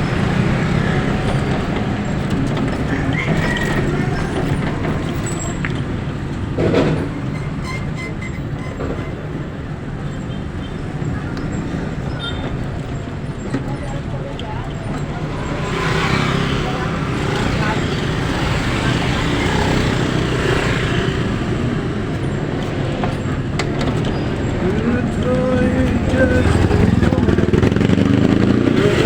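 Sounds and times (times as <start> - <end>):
road noise: 0.0 - 29.0
vehicle engine rumble: 0.0 - 29.0.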